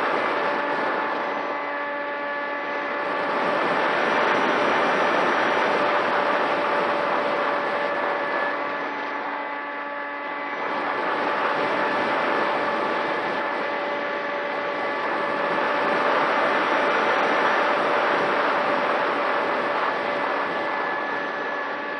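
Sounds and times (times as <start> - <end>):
model aircraft motor whining: 0.0 - 21.9
rushing air: 0.0 - 21.9.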